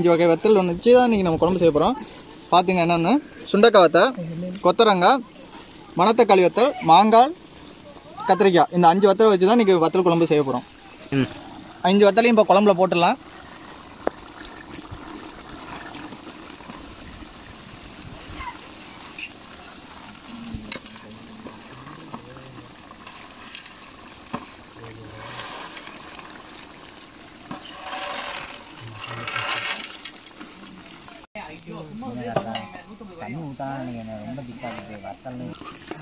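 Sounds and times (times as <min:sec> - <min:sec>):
pot of gravy boiling and bubbling: 0:00.0 - 0:36.0.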